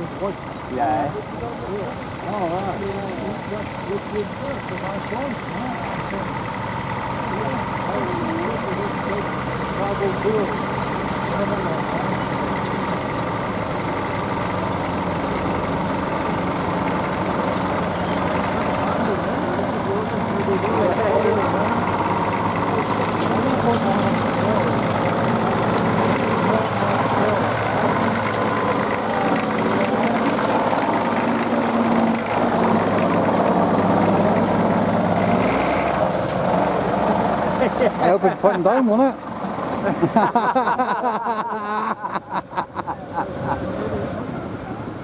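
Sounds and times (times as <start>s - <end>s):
tractor engine running at low revs: 0.0s - 40.2s.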